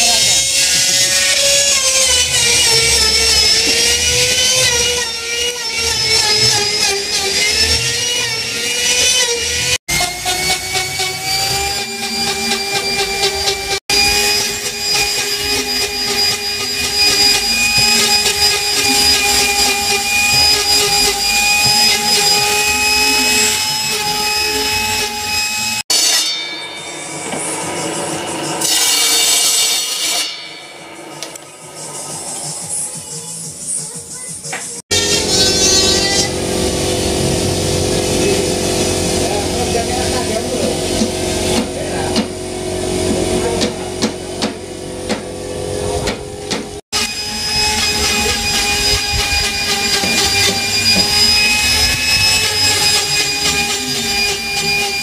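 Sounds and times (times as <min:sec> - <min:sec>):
power tools whining cutting wood: 0:00.0 - 0:30.4, 0:34.5 - 0:55.0.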